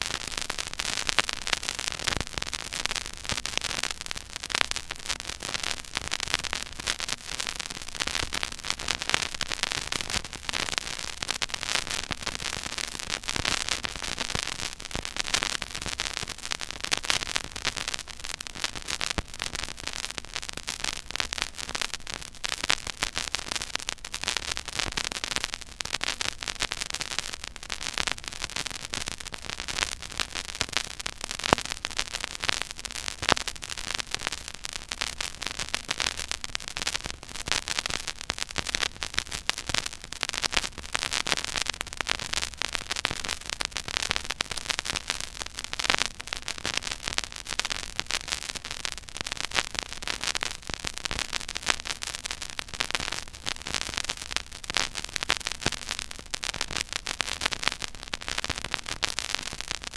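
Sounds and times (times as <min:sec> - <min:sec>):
vinyl surface crackle: 0:00.0 - 0:59.9.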